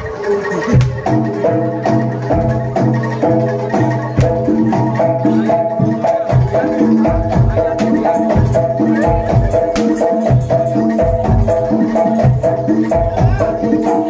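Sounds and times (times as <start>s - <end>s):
metallophones ringing melody: 0.0s - 14.0s
hand drum strikes: 0.7s - 14.0s.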